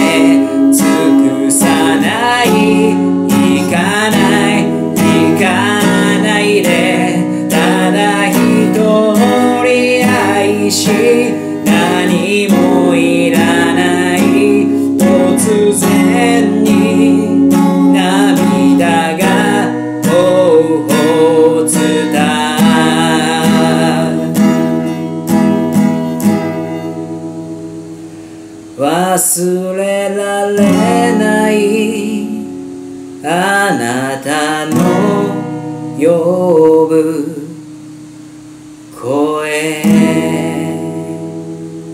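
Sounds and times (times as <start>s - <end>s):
man singing: 0.0s - 25.0s, 28.8s - 37.7s, 38.9s - 41.5s
acoustic guitar strumming: 0.0s - 41.9s.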